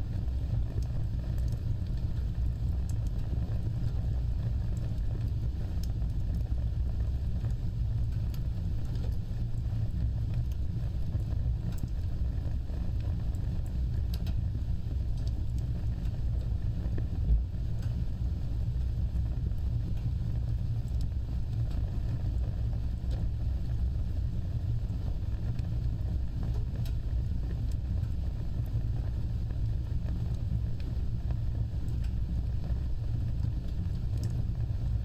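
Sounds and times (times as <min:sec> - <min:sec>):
fire roaring: 0:00.0 - 0:35.0
fire crackling: 0:00.1 - 0:35.0.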